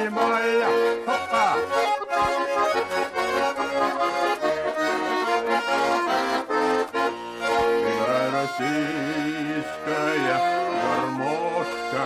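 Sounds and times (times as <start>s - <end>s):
button accordion folk melody: 0.0s - 12.0s.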